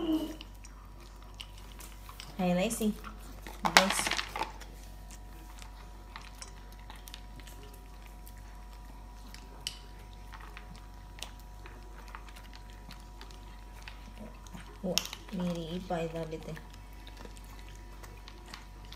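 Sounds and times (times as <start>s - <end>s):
dogs crunching dry kibble: 0.0s - 18.9s.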